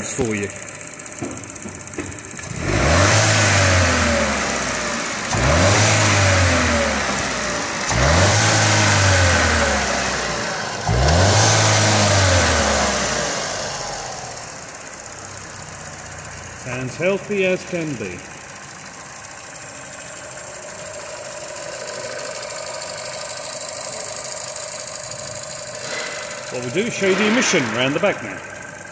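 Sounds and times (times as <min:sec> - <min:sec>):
car engine revving: 0:00.0 - 0:19.2, 0:19.9 - 0:28.9.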